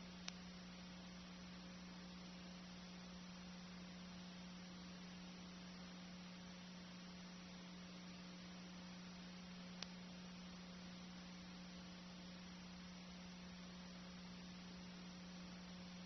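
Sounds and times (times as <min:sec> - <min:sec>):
faint hiss: 0:00.0 - 0:16.0
low electrical hum: 0:00.0 - 0:16.0.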